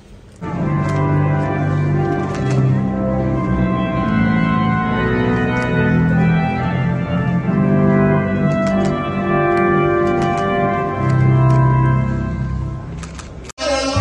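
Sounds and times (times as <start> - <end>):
organ chords: 0.4 - 13.0.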